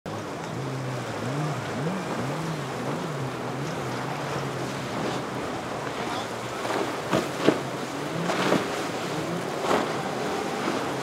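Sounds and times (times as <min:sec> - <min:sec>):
boat engine running: 0:00.1 - 0:11.0
wind and water rushing: 0:00.1 - 0:11.0.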